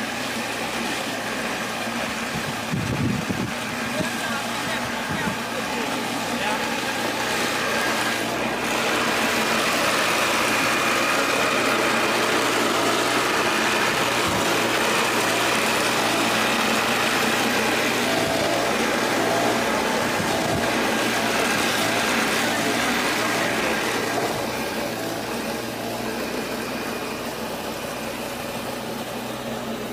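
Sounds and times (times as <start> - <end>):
grating machine grinding hum: 0.0 - 29.9.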